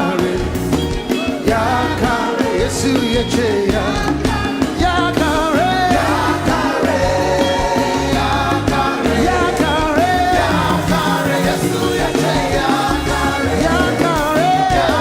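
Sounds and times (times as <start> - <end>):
band with drums and bass: 0.0 - 15.0
voices singing: 0.0 - 15.0.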